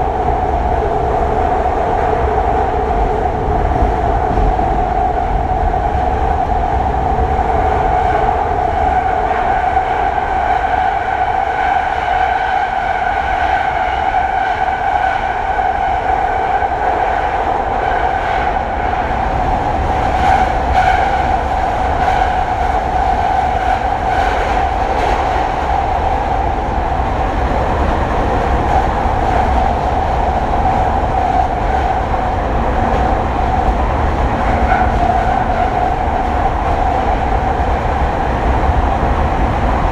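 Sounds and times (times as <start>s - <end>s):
train droning roar in tunnel: 0.0s - 39.9s.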